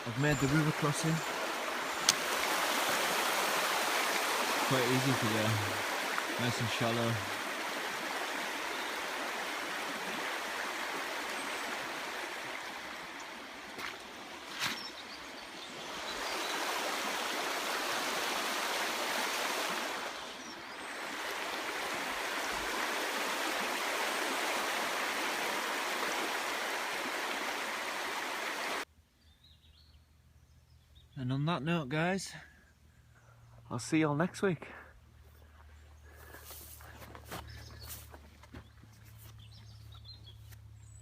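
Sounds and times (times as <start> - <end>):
shallow river running: 0.0 - 28.9, 35.0 - 41.0.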